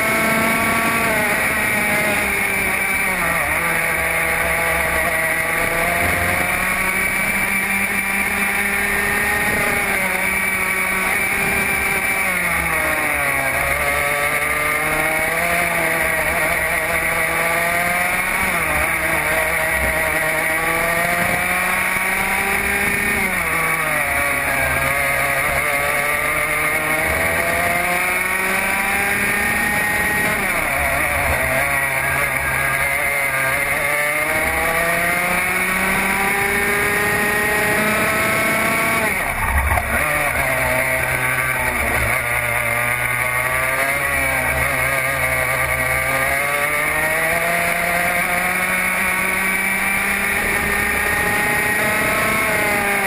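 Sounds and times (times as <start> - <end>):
kart engine at racing speed: 0.0 - 53.0.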